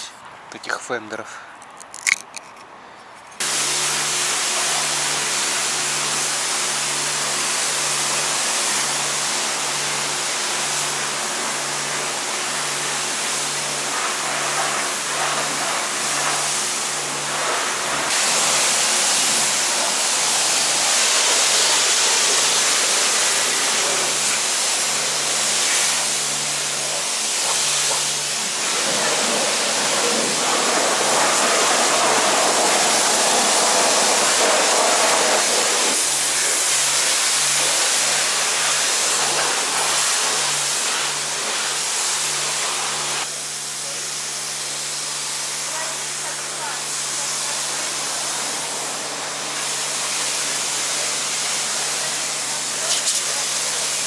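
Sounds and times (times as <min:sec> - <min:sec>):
loud steady hissing rush: 0:03.4 - 0:54.0.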